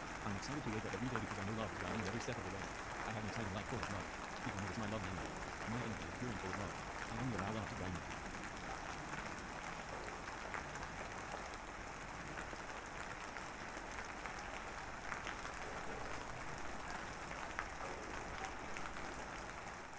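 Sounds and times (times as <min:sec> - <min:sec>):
steady rain: 0:00.0 - 0:19.9.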